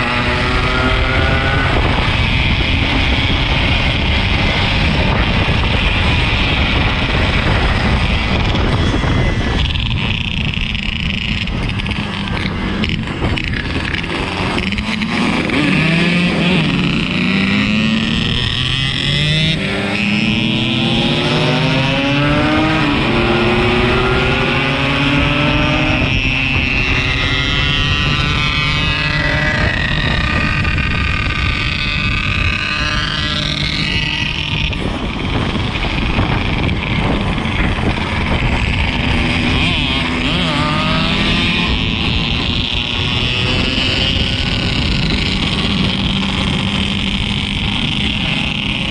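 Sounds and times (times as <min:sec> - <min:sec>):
two-stroke motorcycle engine accelerating: 0:00.0 - 0:48.9
wind and road rush: 0:00.0 - 0:48.9.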